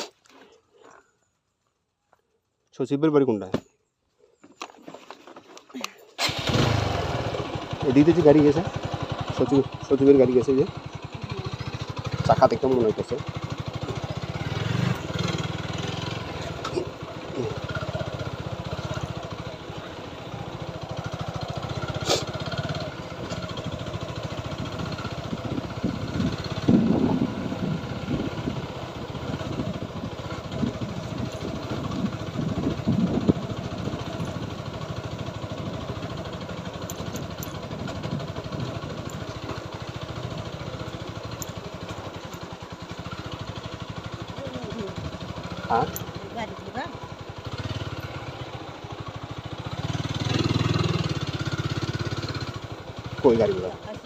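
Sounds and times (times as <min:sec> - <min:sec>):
motorcycle engine hum: 0:03.6 - 0:54.0.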